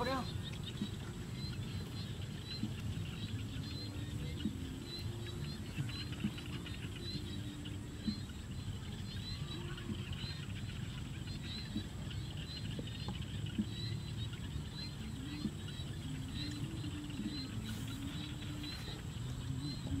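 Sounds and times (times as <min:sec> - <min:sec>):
high repeating chirp: 0:00.0 - 0:20.0.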